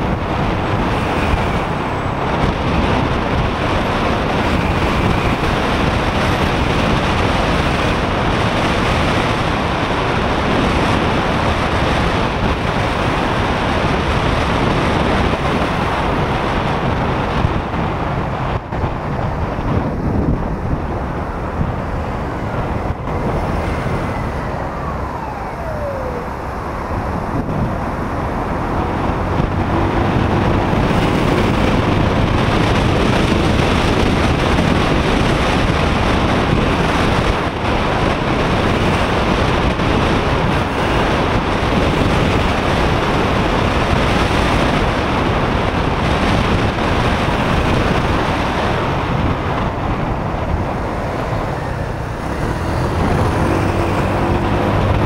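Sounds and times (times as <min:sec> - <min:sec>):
motorcycle engine: 0:00.0 - 0:55.0
road traffic noise: 0:00.0 - 0:55.0
wind buffeting microphone: 0:00.0 - 0:55.0.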